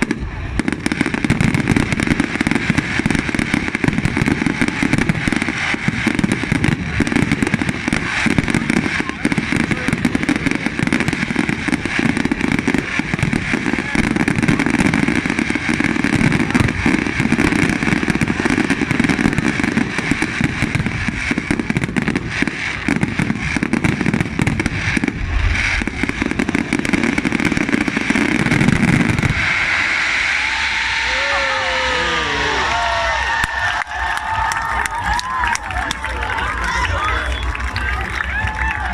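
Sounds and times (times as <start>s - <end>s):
deep firework boom: 0.0s - 35.4s
fireworks crackling and popping: 0.0s - 38.9s.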